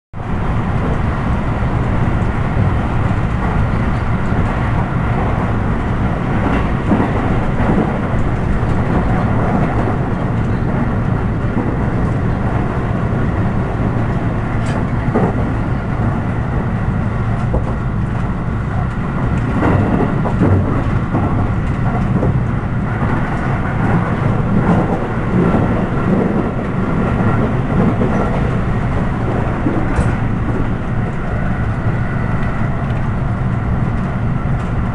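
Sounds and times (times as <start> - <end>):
train wheels rumbling on rails: 0.2 - 34.9.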